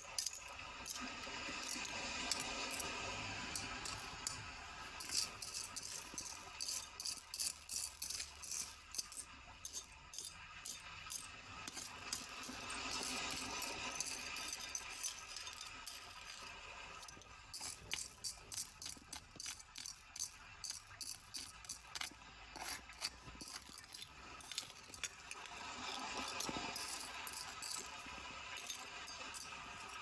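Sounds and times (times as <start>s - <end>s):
small hard objects rattling: 0.0s - 30.0s.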